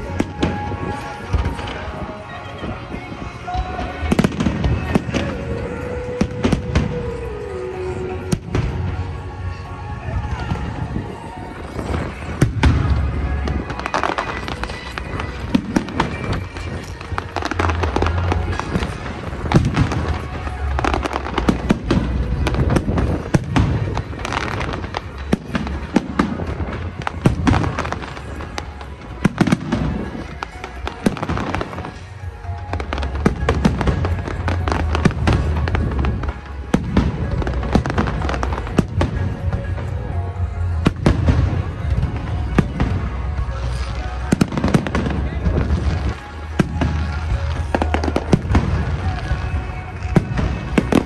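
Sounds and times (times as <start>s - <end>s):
deep fireworks booms: 0.0s - 7.2s, 8.0s - 51.0s
fireworks bangs and crackles: 0.0s - 51.0s
music: 0.0s - 51.0s.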